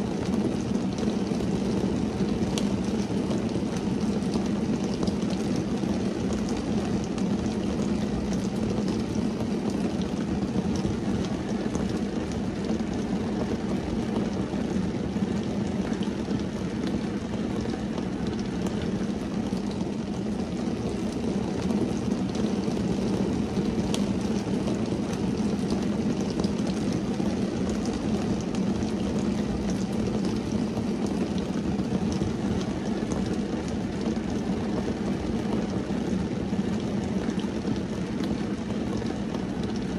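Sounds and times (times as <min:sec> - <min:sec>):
rain on car windshield and roof: 0:00.0 - 0:39.9.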